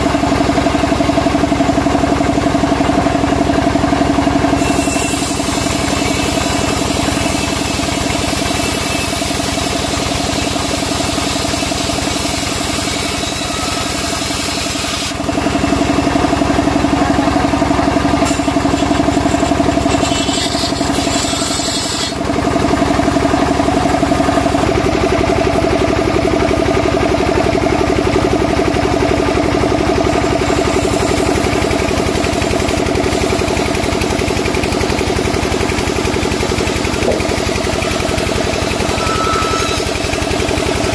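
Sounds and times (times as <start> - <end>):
band saw cutting timber: 0.0 - 40.9.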